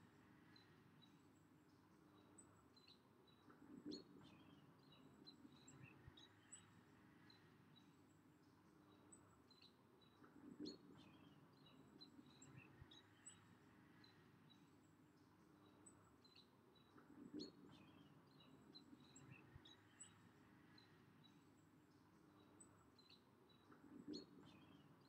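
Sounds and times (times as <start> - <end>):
faint bird chirps: 0.0 - 25.0.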